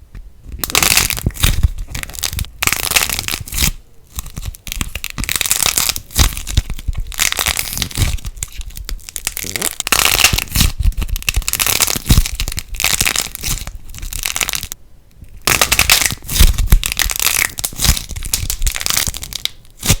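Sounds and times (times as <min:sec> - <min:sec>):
plasticine squeezed and crackling: 0:00.5 - 0:20.0.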